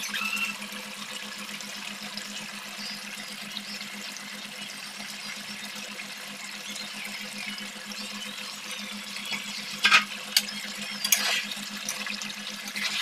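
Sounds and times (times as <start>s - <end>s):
curry bubbling and sizzling: 0.0s - 13.0s.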